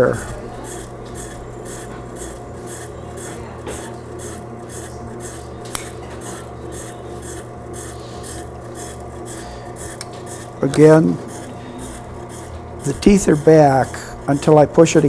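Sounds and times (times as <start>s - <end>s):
blade grinding rhythmic rasp: 0.0s - 15.0s
sharpener motor humming: 0.0s - 15.0s.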